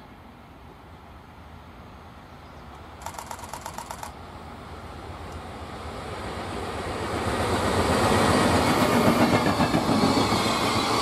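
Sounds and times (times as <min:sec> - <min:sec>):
freight train rumble: 0:00.0 - 0:11.0
outdoor background noise: 0:00.0 - 0:11.0.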